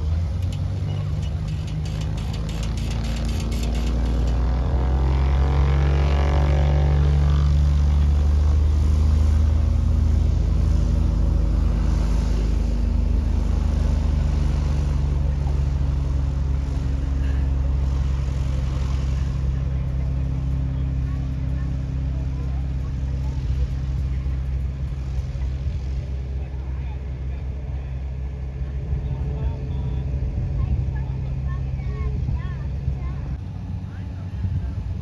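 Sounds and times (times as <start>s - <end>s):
engine deep hum: 0.0s - 35.0s
gliding whine: 0.0s - 35.0s.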